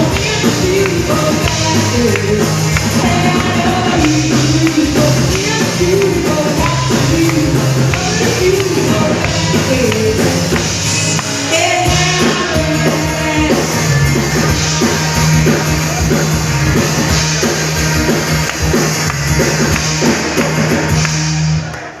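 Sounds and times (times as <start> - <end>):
rock music with singer: 0.0 - 22.0.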